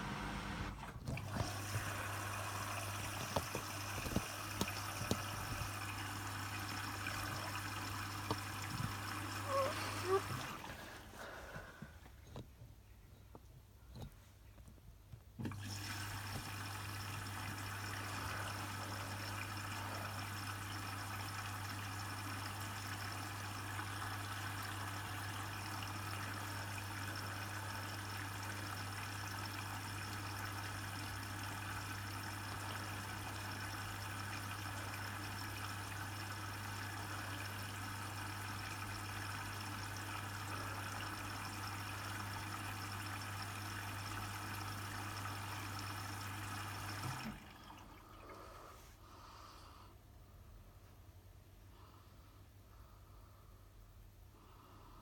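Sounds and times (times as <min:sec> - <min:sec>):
water running into washing machine: 0:00.0 - 0:11.8, 0:15.4 - 0:48.5.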